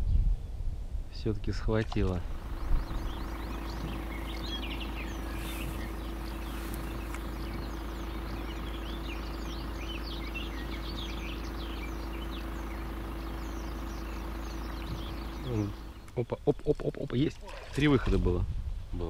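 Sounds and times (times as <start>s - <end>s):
songbirds singing and chirping: 0.0s - 19.0s
steady low hum: 0.5s - 16.6s.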